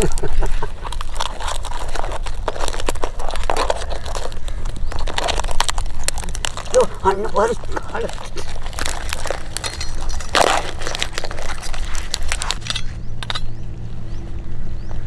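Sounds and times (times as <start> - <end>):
crab shells clicking and scraping: 0.0 - 13.6
steady low rumble: 0.0 - 15.0.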